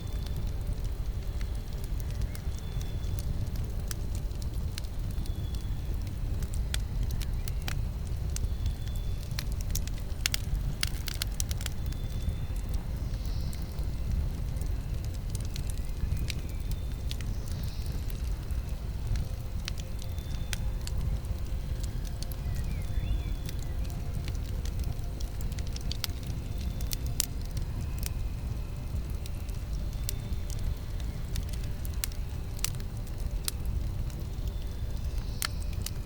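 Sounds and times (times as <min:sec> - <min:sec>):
campfire low rumble: 0:00.0 - 0:36.0
wood crackling and popping: 0:00.0 - 0:36.0.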